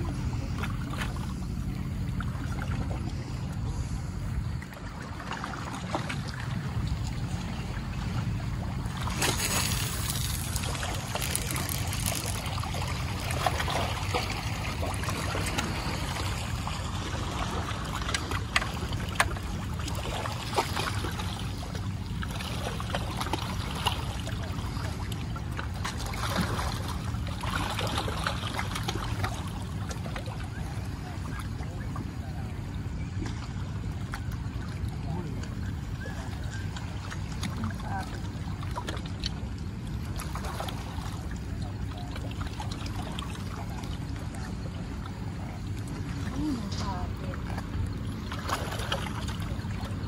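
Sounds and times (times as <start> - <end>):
water lapping at shore: 0.0 - 50.0.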